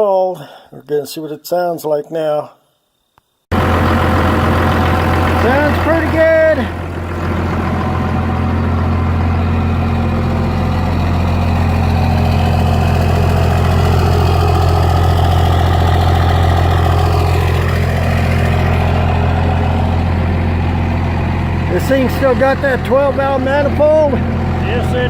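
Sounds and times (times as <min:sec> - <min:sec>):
diesel engine idling: 0:03.5 - 0:25.0.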